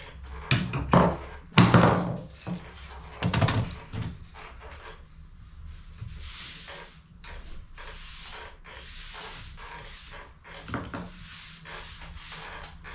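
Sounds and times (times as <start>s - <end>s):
scraping and rustling: 2.3s - 12.9s.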